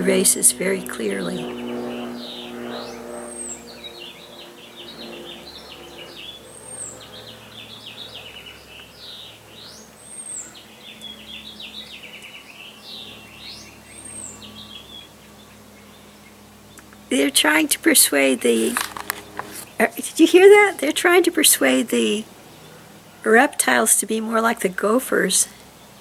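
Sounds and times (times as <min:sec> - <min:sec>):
airplane drone overhead: 0:00.0 - 0:26.0
songbirds singing: 0:00.0 - 0:26.0.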